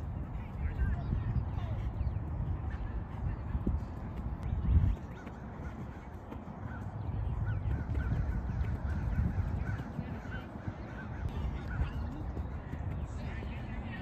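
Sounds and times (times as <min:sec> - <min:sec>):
wind rumble on microphone: 0:00.0 - 0:14.0
distant birds calling: 0:01.1 - 0:14.0.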